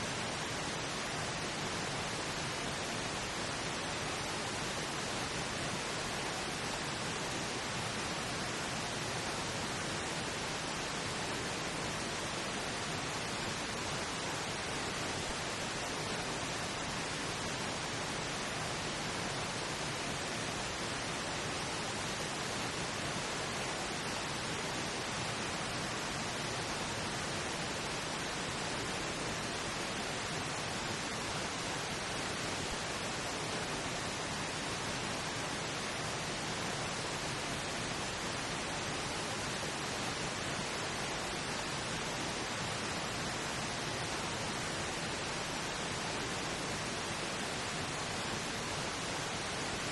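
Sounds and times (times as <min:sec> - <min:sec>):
pink noise hiss: 0:00.0 - 0:49.9.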